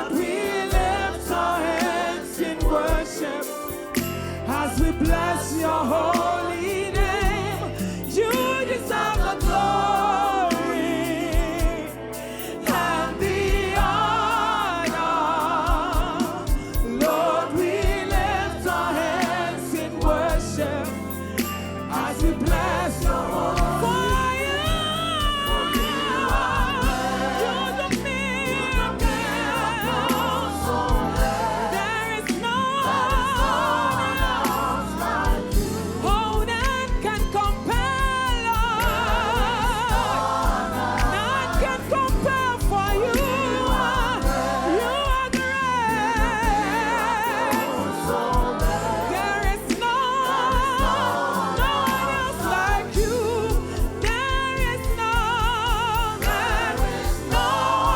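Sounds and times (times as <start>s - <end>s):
band with steady beat: 0.0s - 57.9s
choir singing: 0.0s - 57.9s
solo voice singing with vibrato: 0.0s - 57.9s.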